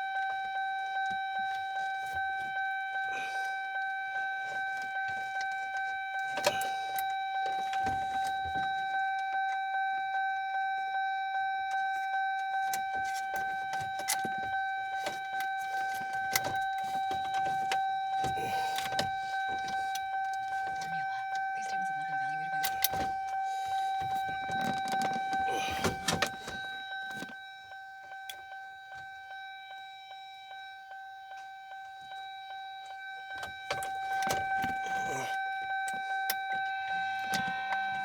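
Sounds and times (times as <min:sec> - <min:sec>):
warning chime dinging: 0:00.0 - 0:38.0.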